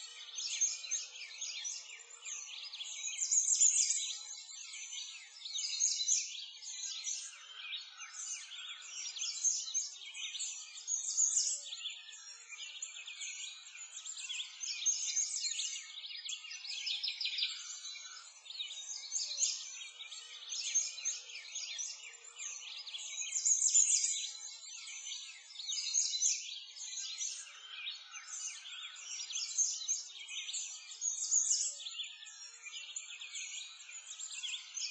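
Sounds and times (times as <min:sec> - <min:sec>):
birds chirping and twittering: 0:00.0 - 0:34.9.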